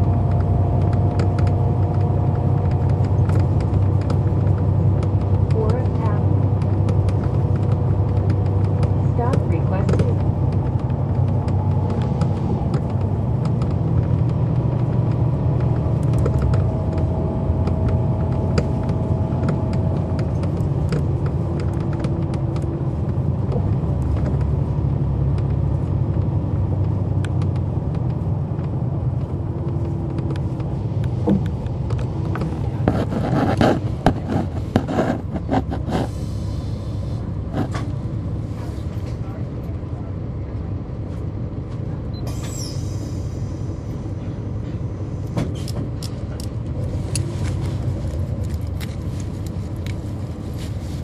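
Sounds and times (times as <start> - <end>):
bus engine rumble with whines: 0.0 - 51.0.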